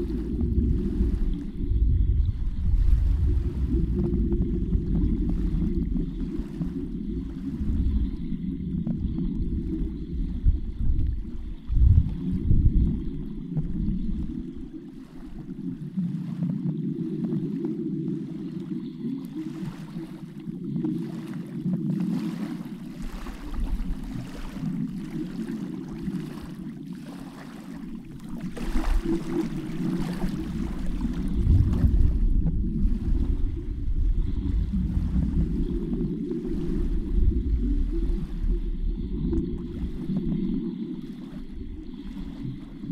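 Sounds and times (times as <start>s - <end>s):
underwater water rumble: 0.0s - 42.9s.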